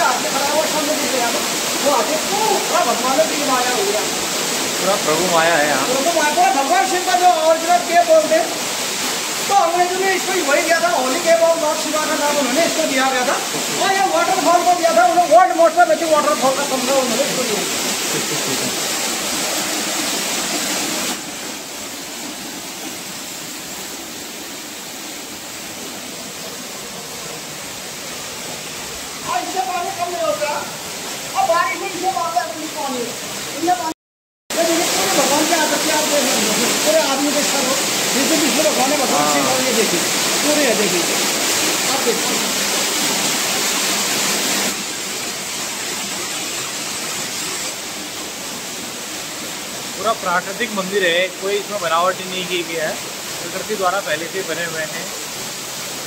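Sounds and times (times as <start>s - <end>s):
small waterfall splashing into pool: 0.0s - 33.9s, 34.5s - 56.0s.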